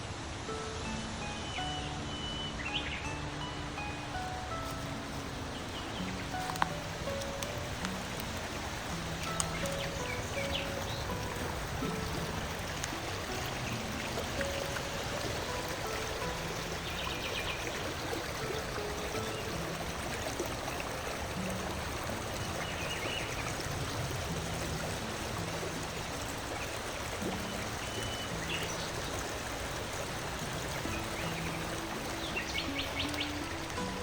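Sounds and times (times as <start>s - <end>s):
stream water rushing and trickling: 0.0s - 34.0s.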